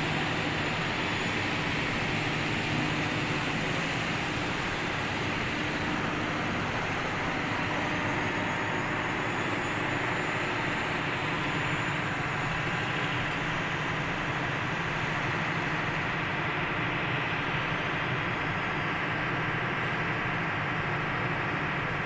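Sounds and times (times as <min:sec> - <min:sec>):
machinery droning hum: 0:00.0 - 0:22.0.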